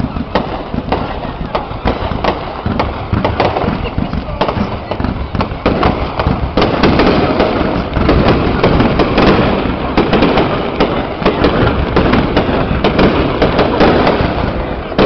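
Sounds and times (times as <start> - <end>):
fireworks cracking and banging: 0.0 - 15.0.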